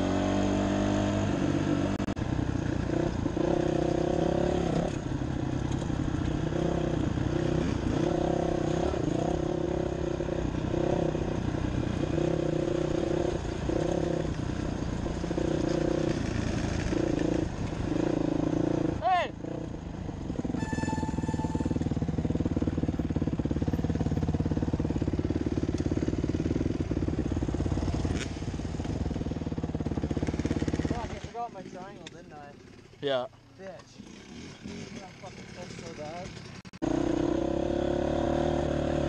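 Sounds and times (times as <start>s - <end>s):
dirt bike engine revving: 0.0s - 33.0s, 33.8s - 39.0s
wind and road noise: 0.0s - 39.0s.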